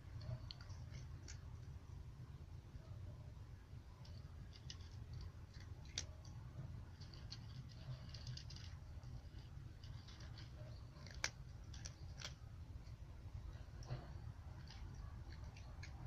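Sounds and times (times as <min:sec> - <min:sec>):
cat crunching dry kibble: 0:00.0 - 0:01.8, 0:04.0 - 0:16.0.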